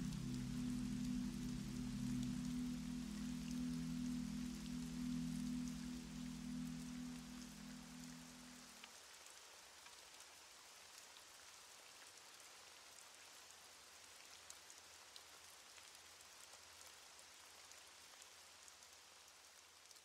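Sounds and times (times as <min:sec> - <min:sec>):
faint steady rain: 0:00.0 - 0:20.0.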